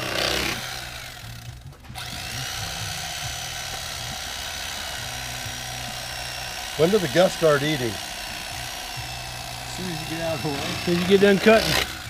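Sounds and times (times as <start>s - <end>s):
electric carving knife buzzing: 0.0s - 12.0s.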